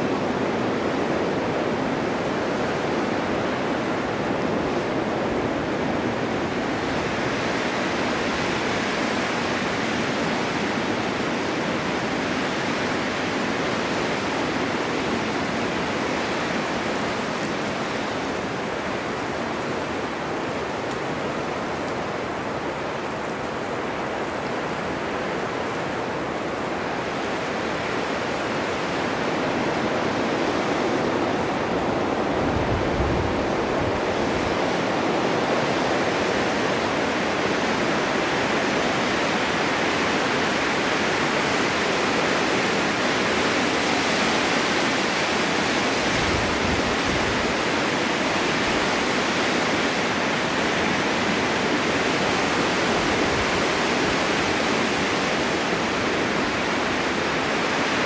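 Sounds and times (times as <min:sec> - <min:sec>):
snowstorm wind hissing: 0:00.0 - 0:58.0.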